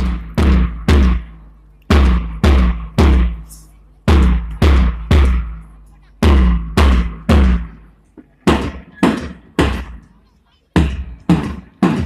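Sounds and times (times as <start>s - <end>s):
bass drum beats: 0.0s - 10.1s, 10.8s - 12.0s.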